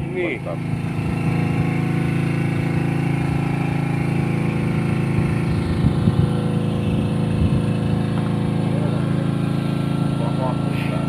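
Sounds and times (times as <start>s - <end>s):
small boat engine running: 0.0s - 11.0s.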